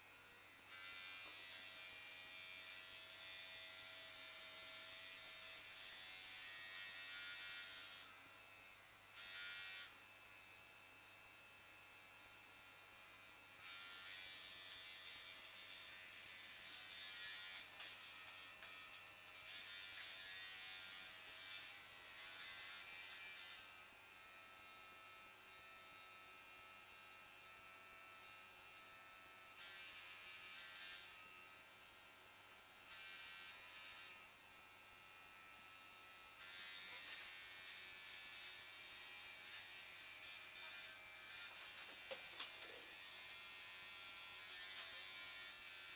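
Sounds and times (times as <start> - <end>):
tattoo machine buzzing: 0.0 - 45.9.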